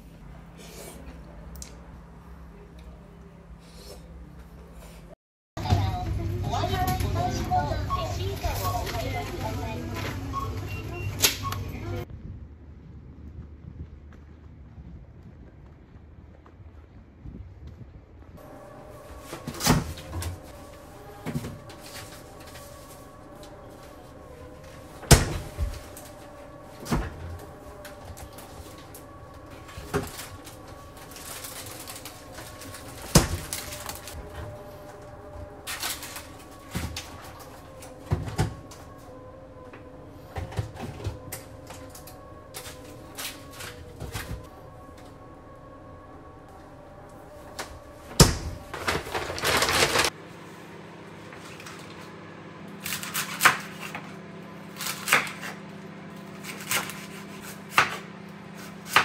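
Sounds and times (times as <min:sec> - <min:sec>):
refrigerator hum: 0:00.0 - 0:14.4, 0:18.3 - 0:59.0.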